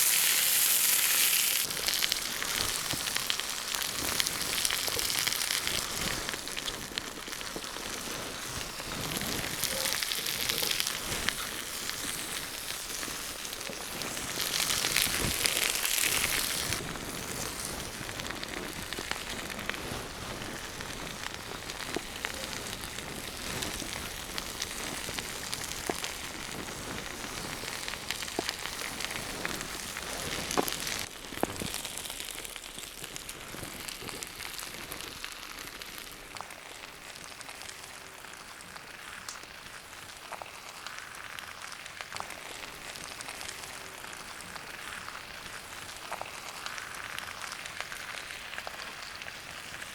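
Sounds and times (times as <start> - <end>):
burning wood crackling: 0.0 - 49.9
food sizzling over campfire: 0.0 - 49.9.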